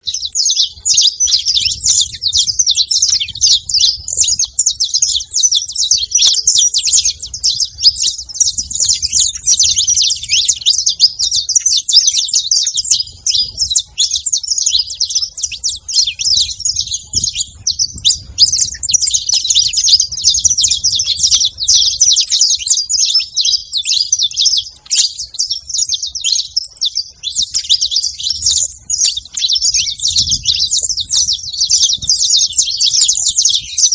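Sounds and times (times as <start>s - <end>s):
finches chirping: 0.0s - 33.9s.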